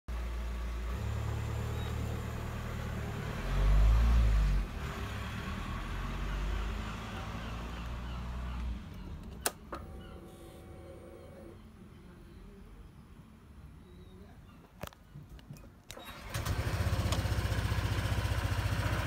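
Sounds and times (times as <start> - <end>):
vehicle engine rumble: 0.1 - 19.0.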